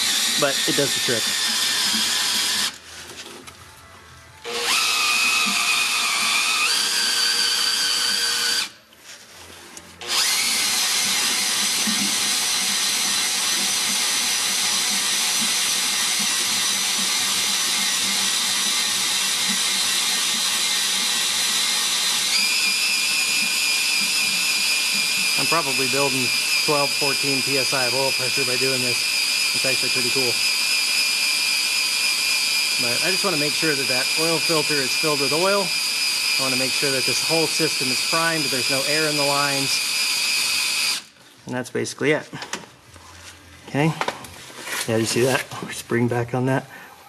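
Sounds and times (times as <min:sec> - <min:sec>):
electric drill whining: 0:00.0 - 0:02.8, 0:04.4 - 0:08.8, 0:10.0 - 0:41.2.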